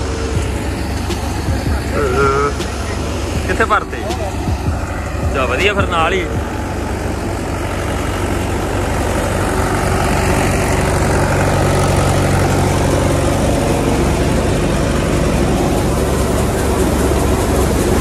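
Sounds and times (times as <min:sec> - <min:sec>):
thresher rushing whir: 0:00.0 - 0:18.0
tractor engine drone: 0:00.0 - 0:18.0.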